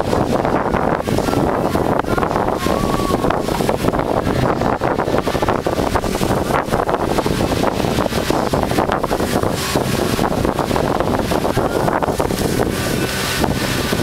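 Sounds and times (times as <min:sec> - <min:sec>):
low rumble: 0:00.0 - 0:14.0
wind buffeting microphone: 0:00.0 - 0:14.0.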